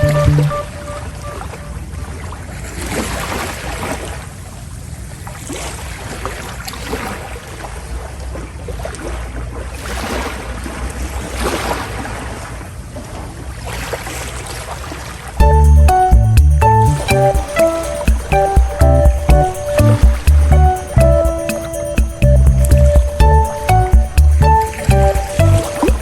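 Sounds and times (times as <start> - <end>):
water splashing along hull: 0.0 - 26.0.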